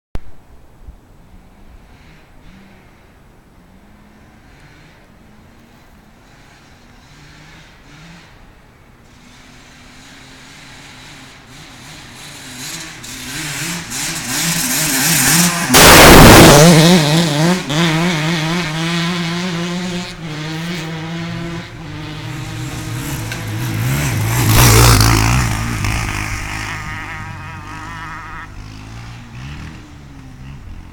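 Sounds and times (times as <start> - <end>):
dirt bike engines revving past: 1.8 - 30.9.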